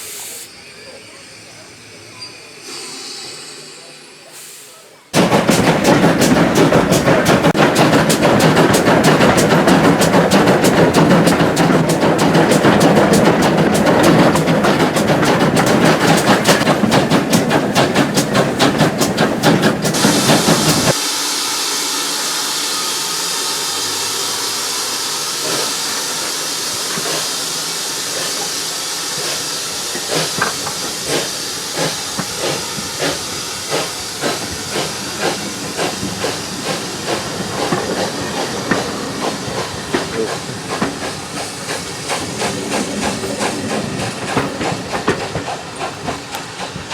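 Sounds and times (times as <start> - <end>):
steam hissing: 0.0 - 46.9
steam locomotive exhaust chuffs: 0.0 - 46.9.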